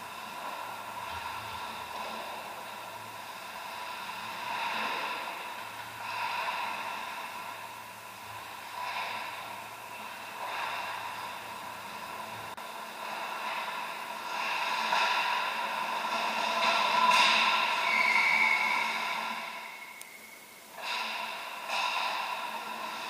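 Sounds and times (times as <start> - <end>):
rink hiss and hum: 0.0 - 23.0.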